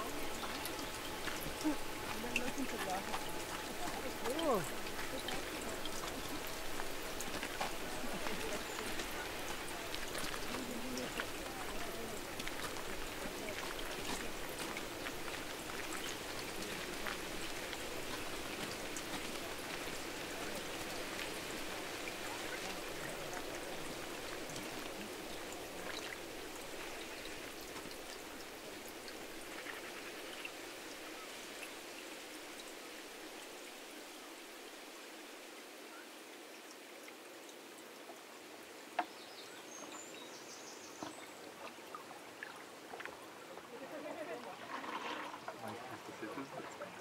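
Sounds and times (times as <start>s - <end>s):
running water: 0.0s - 47.0s.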